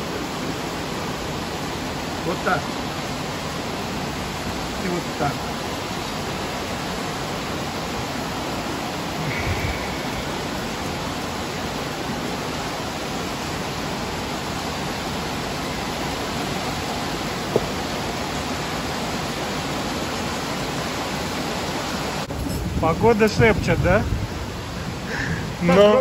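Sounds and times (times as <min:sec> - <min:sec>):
heavy rain hiss: 0:00.0 - 0:26.0.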